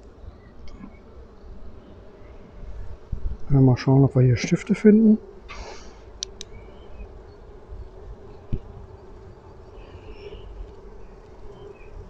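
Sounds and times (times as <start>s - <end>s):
bees buzzing: 0.1s - 12.0s.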